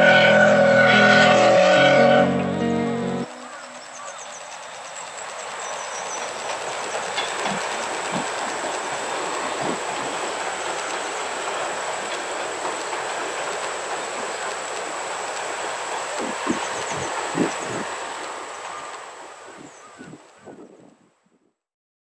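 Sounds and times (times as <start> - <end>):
train wheels rushing on rail: 0.0 - 21.0.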